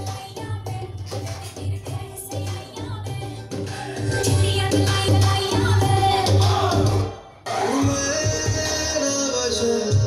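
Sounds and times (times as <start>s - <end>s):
song with singing and bass beat: 0.0s - 10.0s.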